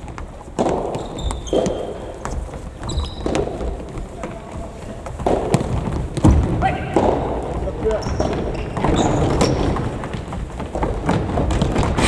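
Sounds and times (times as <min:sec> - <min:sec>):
running footsteps on hall floor: 0:00.0 - 0:12.0.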